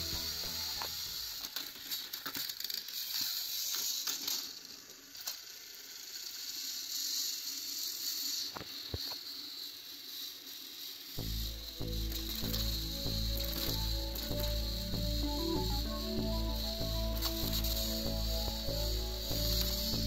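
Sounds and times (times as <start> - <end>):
toy train motors whirring: 0.0 - 20.0.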